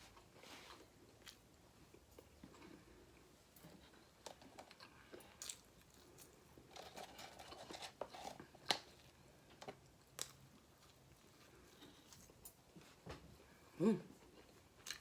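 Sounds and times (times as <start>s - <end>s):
person chewing food: 0.7s - 12.5s, 14.2s - 15.0s.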